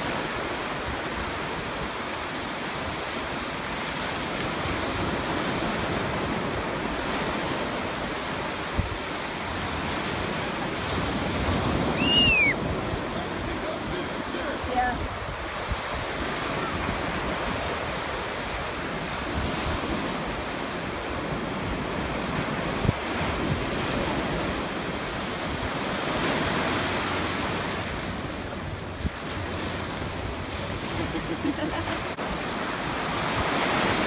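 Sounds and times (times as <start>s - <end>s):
ocean surf breaking: 0.0s - 34.0s
wind on microphone: 0.0s - 34.0s.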